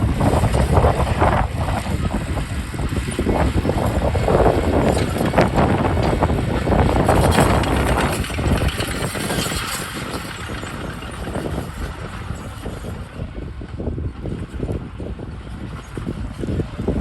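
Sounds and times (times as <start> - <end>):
heavy machinery diesel engine running: 0.0 - 17.0.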